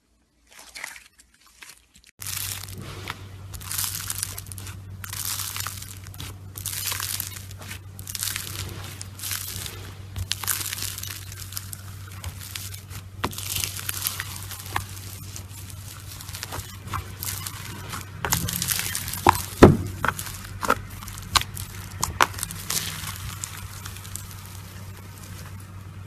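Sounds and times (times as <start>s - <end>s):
slime squishing by hand: 0.4s - 26.0s.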